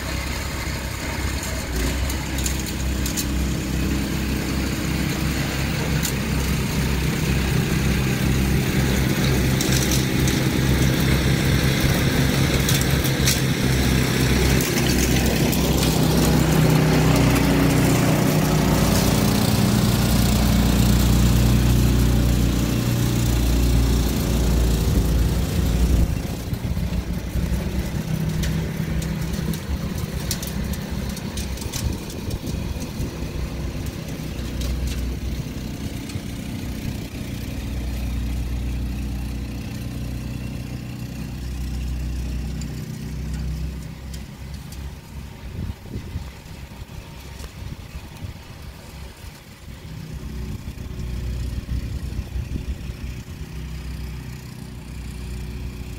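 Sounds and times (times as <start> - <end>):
snow blower engine running: 0.0 - 55.9.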